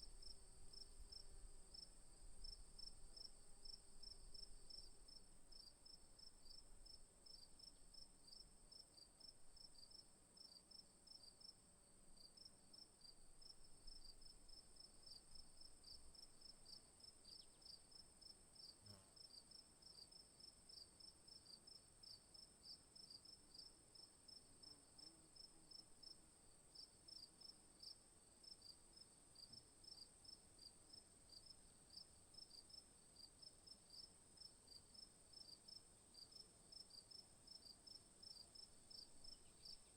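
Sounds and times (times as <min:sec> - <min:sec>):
insect chirps: 0:00.0 - 0:39.9
insect drone: 0:00.1 - 0:39.9.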